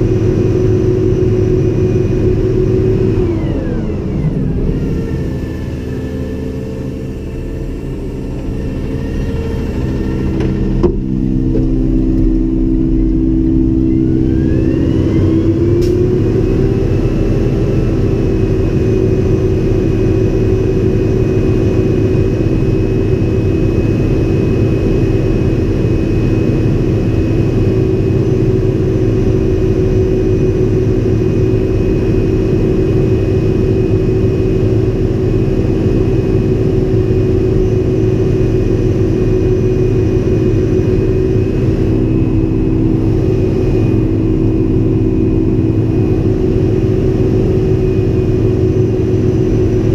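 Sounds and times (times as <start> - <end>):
garbage truck engine running: 0.0 - 49.9.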